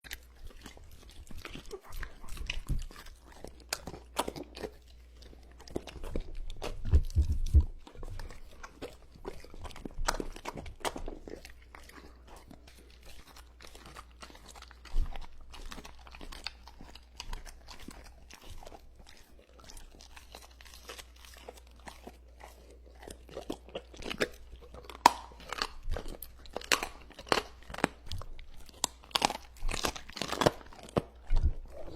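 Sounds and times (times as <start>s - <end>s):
dog crunching food: 0.0s - 31.9s.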